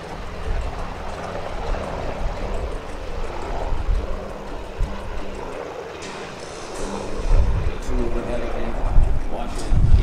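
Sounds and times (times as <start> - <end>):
helicopter rotor and turbine noise: 0.0 - 10.0.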